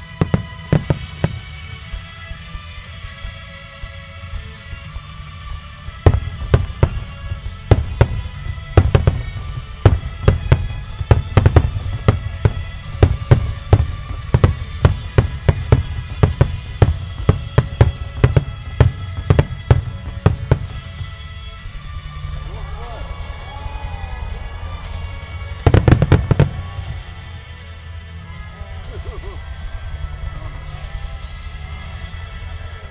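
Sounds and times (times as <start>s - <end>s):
fireworks bursting in rapid volley: 0.0s - 28.1s
music playing: 0.0s - 32.9s.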